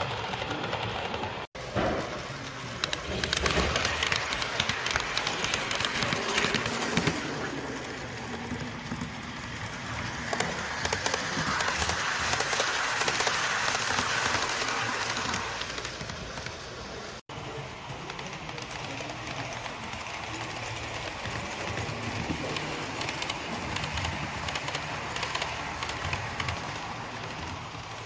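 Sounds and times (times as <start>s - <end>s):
model train wheels clattering on rail: 0.0s - 28.0s.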